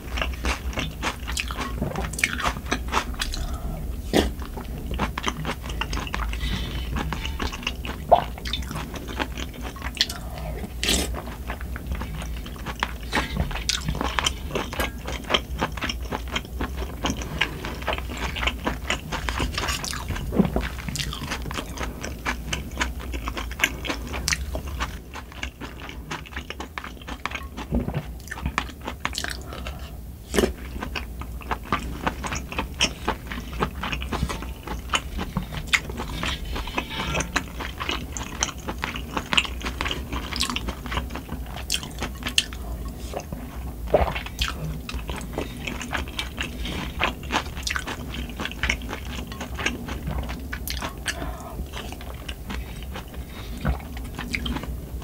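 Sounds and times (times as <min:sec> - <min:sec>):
wet chewing: 0:00.0 - 0:55.0.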